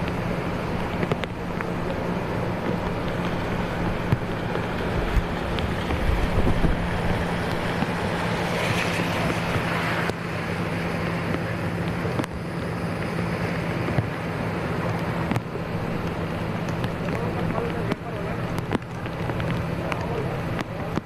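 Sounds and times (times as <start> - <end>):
steady low hum: 0.0 - 21.0
wind buffeting microphone: 0.0 - 21.0.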